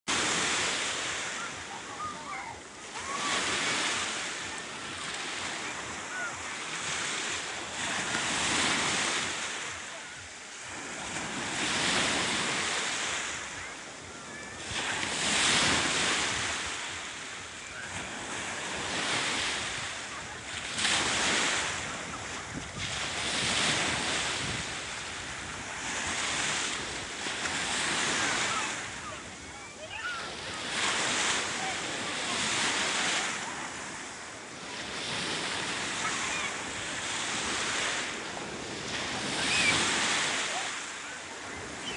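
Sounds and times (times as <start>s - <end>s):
sea waves washing in: 0.1s - 41.9s.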